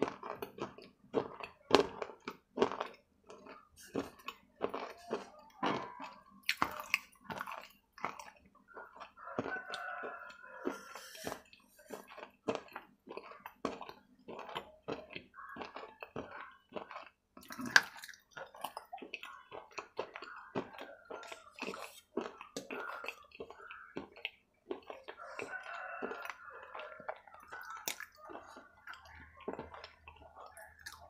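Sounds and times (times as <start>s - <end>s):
person chewing with wet mouth sounds: 0.0s - 31.0s.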